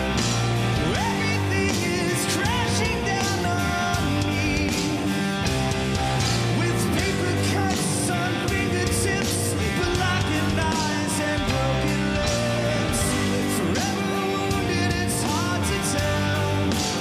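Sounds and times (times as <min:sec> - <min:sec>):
bass guitar: 0:00.0 - 0:17.0
drum kit with cymbals: 0:00.0 - 0:17.0
electric guitars: 0:00.0 - 0:17.0.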